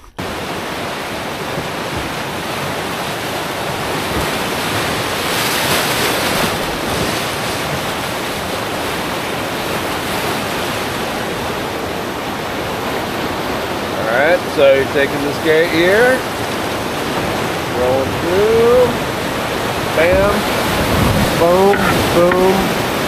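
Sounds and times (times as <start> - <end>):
river rapids rushing: 0.0 - 23.0.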